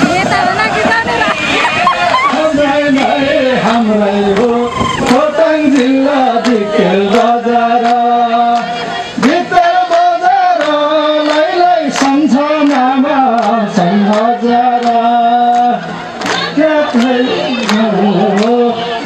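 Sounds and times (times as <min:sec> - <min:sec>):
man singing: 0:01.9 - 0:19.0.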